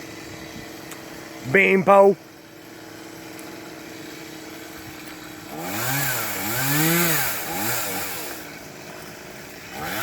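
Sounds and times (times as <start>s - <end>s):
chainsaw idling and revving: 0.0s - 10.0s.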